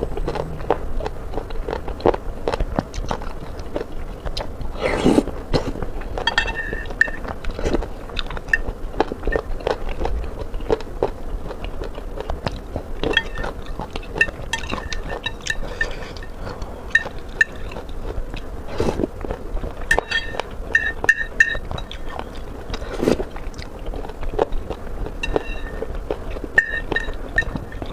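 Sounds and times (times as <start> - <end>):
chewing food close up: 0.0 - 27.9.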